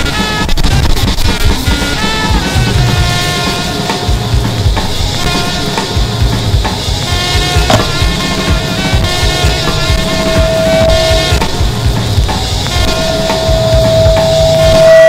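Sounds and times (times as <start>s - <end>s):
held pitched turntable notes: 0.0s - 15.0s
irregular low thumps: 2.4s - 14.9s.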